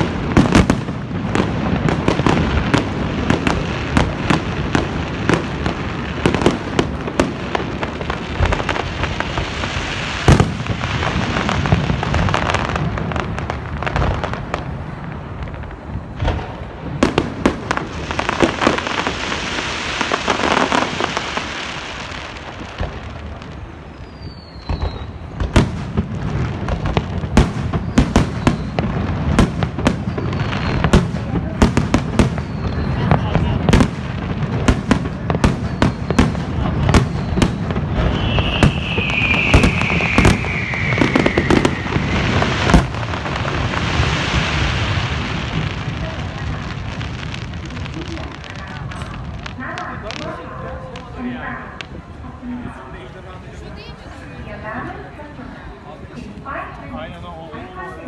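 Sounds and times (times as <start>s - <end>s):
fireworks bangs and booms: 0.0s - 58.0s
fireworks crackling: 0.0s - 58.0s.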